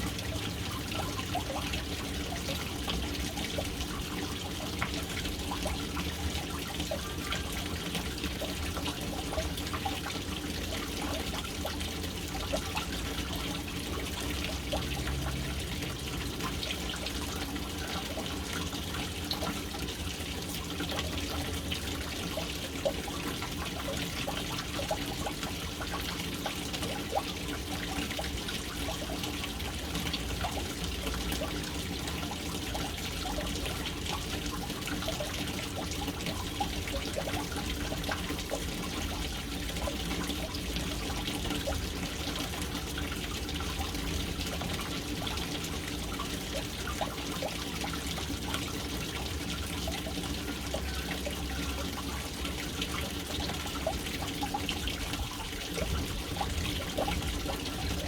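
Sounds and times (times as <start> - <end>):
water drips and plinks: 0.0 - 58.0
water splashing into tank: 0.0 - 58.0.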